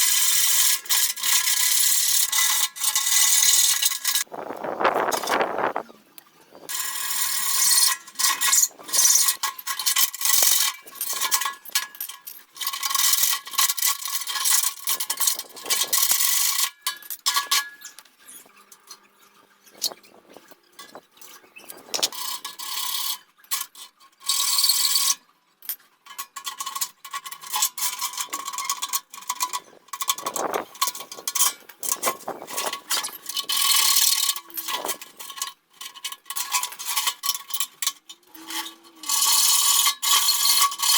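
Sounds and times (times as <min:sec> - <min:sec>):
scraping and clicking: 0:00.0 - 0:23.9, 0:25.7 - 0:40.9.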